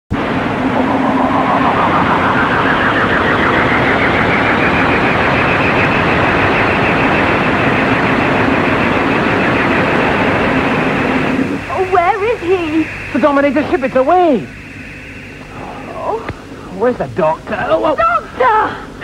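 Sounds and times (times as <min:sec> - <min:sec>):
loud roar with fluttering whine: 0:00.1 - 0:19.0
low steady hum: 0:00.1 - 0:19.0.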